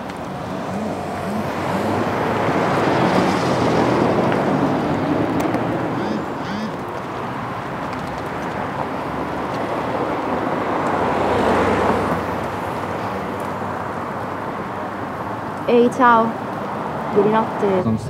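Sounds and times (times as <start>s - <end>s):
cars passing: 0.0s - 18.0s.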